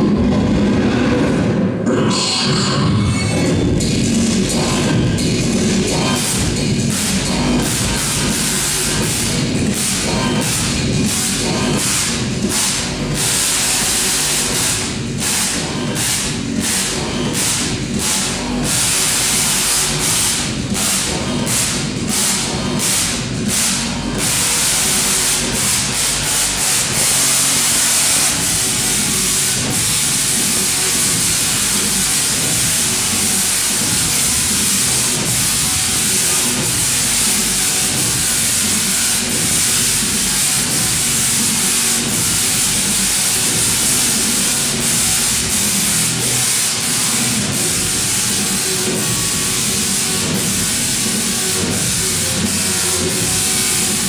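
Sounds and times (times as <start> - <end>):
tesla coil arcs hissing buzz: 1.9 - 54.0.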